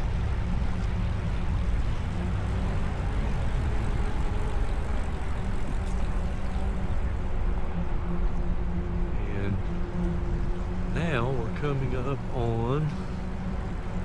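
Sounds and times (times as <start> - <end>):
road and tyre noise: 0.0 - 14.0
wind rumble on microphone: 0.0 - 14.0.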